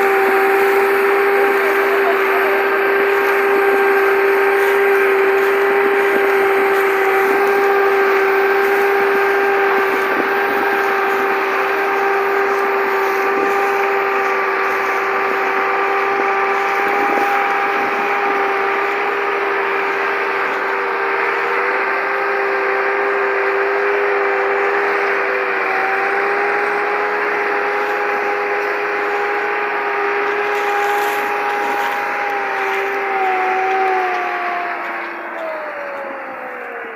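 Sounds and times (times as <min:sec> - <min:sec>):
tractor running with high whine: 0:00.0 - 0:36.9
wavering tone: 0:00.0 - 0:36.9.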